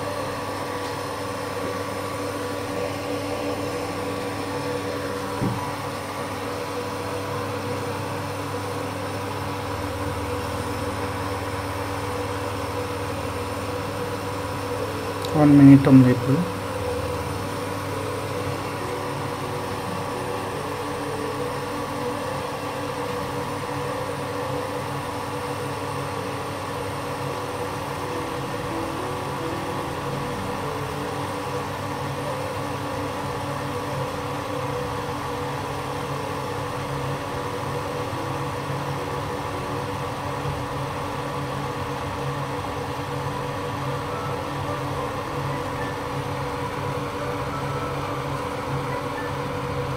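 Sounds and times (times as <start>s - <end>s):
induction cooktop fan humming: 0.0s - 49.9s.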